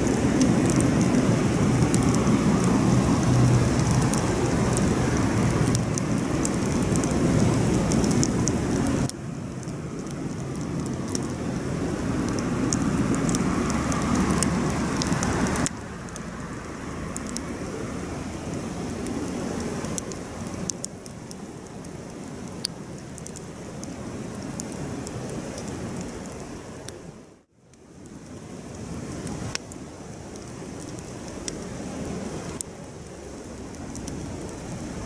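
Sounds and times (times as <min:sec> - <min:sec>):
campfire crackling and popping: 0:00.0 - 0:27.0, 0:27.7 - 0:35.0.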